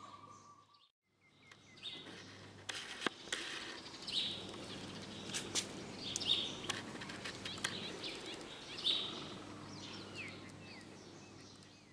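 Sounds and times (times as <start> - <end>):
small birds chirping: 0.0 - 2.5, 3.1 - 11.9.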